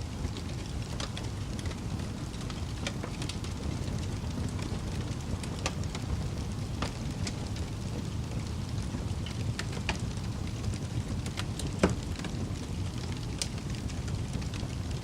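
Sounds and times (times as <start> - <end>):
fire crackling: 0.0 - 15.0
low rumble of burning flames: 0.0 - 15.0.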